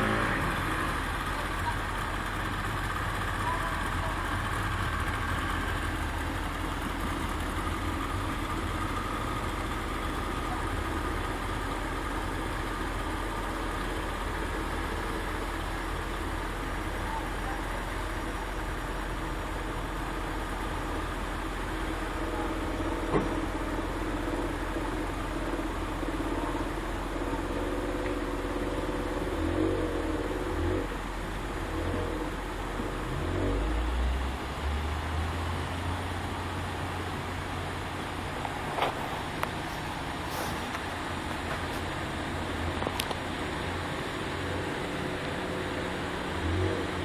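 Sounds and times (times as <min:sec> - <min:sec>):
heavy engine idling: 0:00.0 - 0:47.0.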